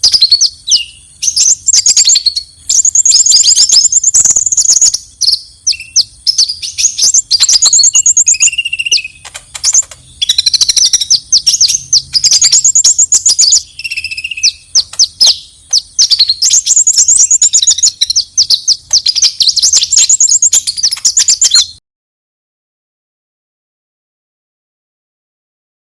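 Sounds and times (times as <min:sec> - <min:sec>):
bird chirping and trilling: 0:00.0 - 0:21.8
low whistled bird notes: 0:00.0 - 0:21.8.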